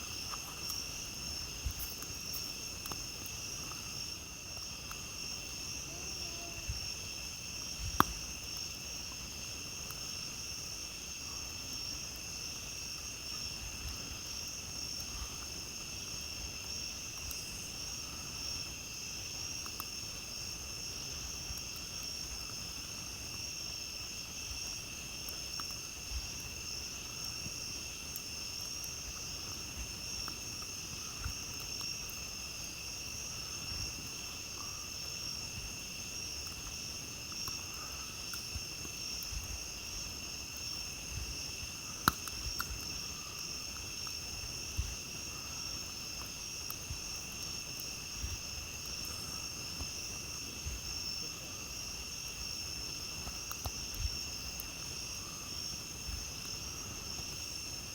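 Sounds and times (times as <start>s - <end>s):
campfire pops and crackles: 0.0s - 57.9s
crickets and insects trilling: 0.0s - 57.9s.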